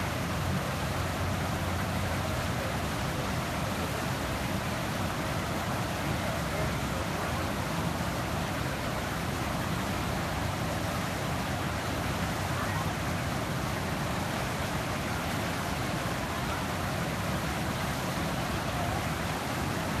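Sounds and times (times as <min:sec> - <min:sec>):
river water rushing through rapids: 0:00.0 - 0:20.0.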